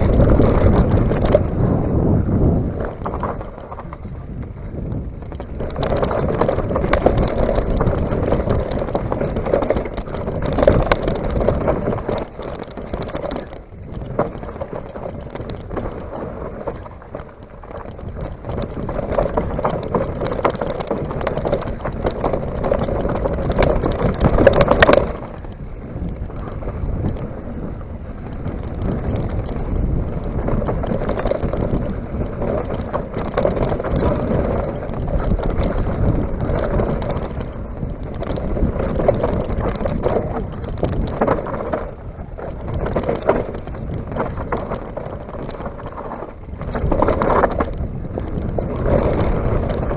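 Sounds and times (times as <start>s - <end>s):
mountain bike rattling and knocking: 0.0s - 49.9s
tyres rolling on loose soil: 0.0s - 49.9s
wind buffeting microphone: 0.0s - 49.9s.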